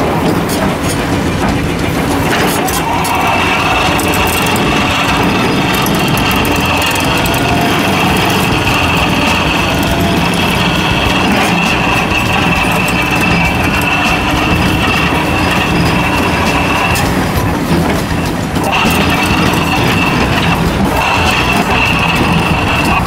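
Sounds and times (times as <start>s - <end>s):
vibrating ripper machine droning: 0.0s - 23.0s.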